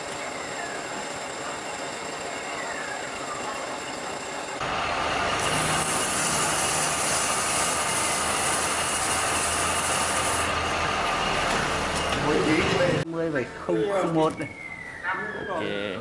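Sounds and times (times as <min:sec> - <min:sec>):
machine running steadily: 0:00.0 - 0:13.0.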